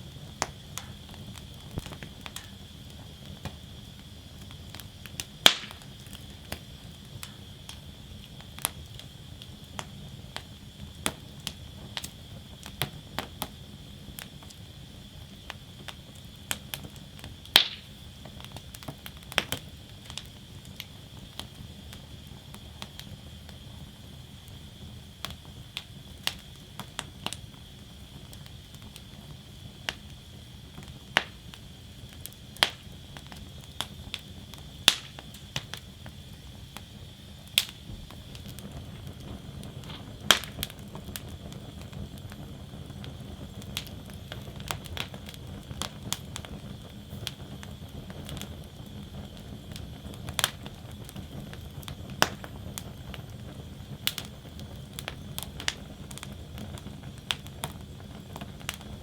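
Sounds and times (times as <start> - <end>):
flames rumbling: 0.0 - 59.0
wood fire popping and cracking: 0.0 - 59.0.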